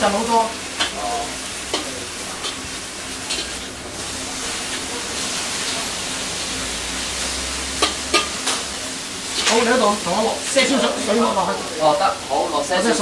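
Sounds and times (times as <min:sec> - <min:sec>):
greens sizzling in a wok: 0:00.0 - 0:13.0.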